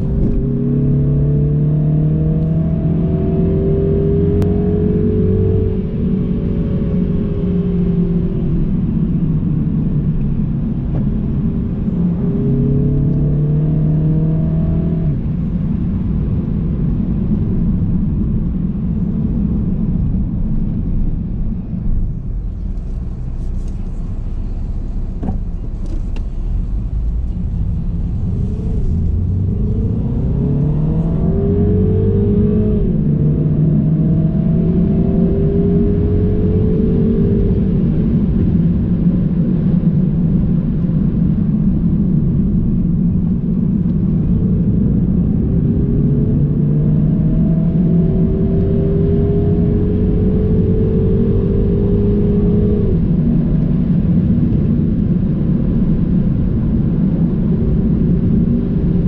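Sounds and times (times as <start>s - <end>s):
car engine accelerating: 0.0s - 59.0s
road noise inside car: 0.0s - 59.0s.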